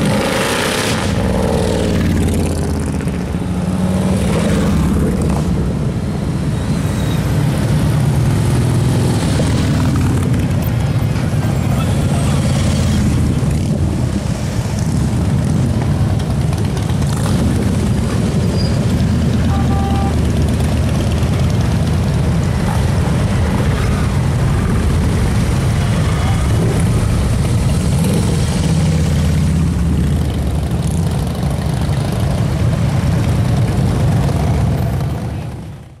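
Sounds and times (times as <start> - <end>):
motorcycle engines rumbling: 0.0 - 36.0.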